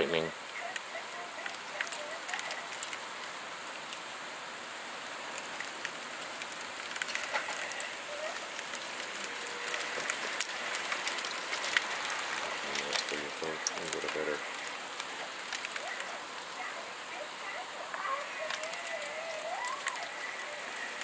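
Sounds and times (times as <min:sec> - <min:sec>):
sleet and freezing rain falling: 0:00.0 - 0:21.0
ice pellets ticking: 0:00.1 - 0:04.1, 0:05.1 - 0:21.0.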